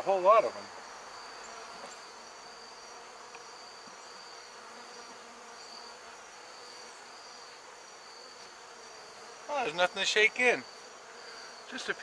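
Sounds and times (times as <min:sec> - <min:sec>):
high-pitched insect chorus: 0:00.0 - 0:12.0
honeybees buzzing: 0:00.0 - 0:12.0.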